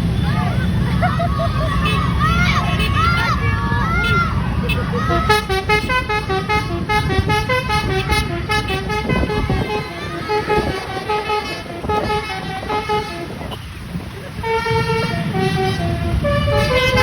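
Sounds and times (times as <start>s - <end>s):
bus horn playing a tune: 1.8s - 3.3s, 4.0s - 17.0s.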